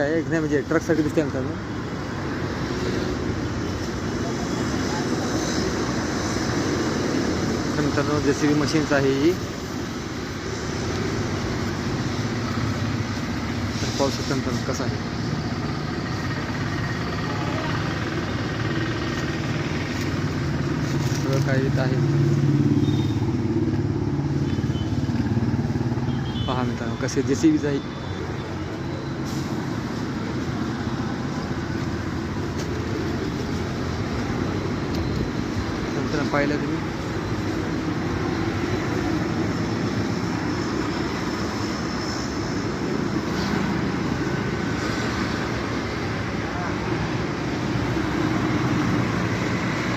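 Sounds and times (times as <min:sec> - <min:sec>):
vehicle engine idling: 0:00.0 - 0:49.9.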